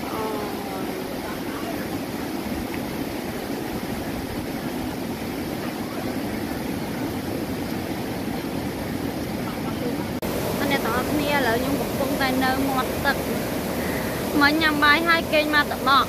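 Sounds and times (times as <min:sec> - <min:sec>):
white water rushing over rocks: 0:00.0 - 0:16.0.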